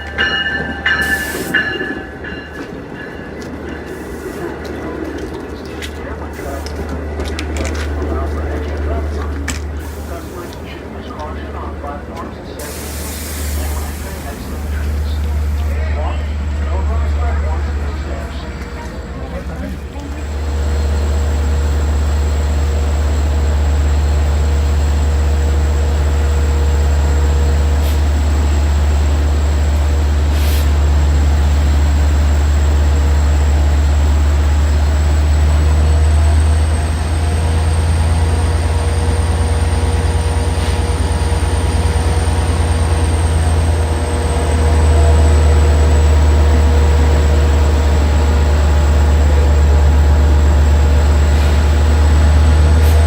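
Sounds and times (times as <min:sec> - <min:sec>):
train rumble with high whine: 0:00.0 - 0:53.0.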